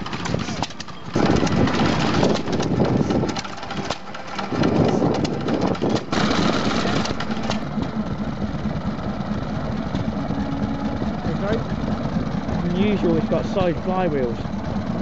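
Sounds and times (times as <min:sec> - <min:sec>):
stationary engines clattering: 0:00.0 - 0:15.0.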